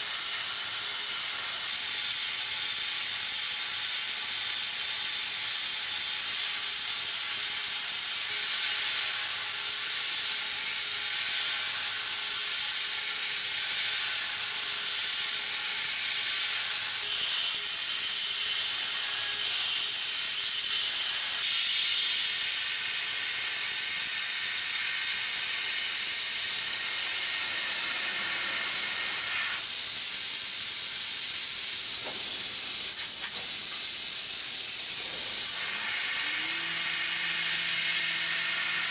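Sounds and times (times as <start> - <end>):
milling machine hiss: 0.0 - 38.9.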